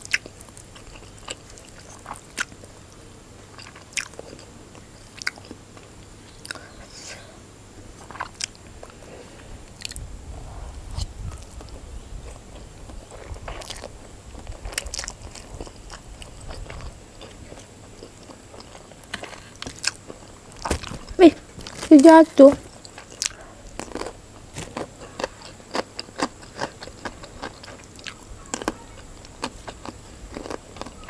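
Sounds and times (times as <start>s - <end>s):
person chewing noodles: 0.0s - 6.8s, 8.0s - 10.0s, 11.4s - 21.9s, 22.7s - 31.0s.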